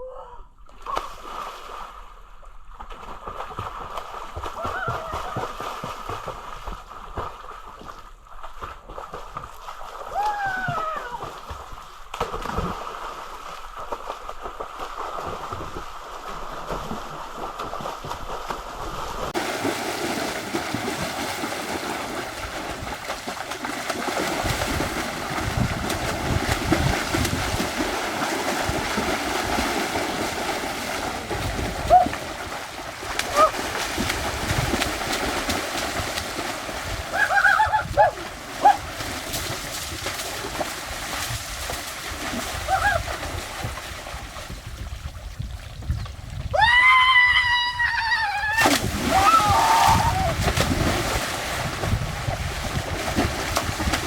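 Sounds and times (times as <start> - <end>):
water running and splashing: 8.5 - 47.4, 48.0 - 54.0.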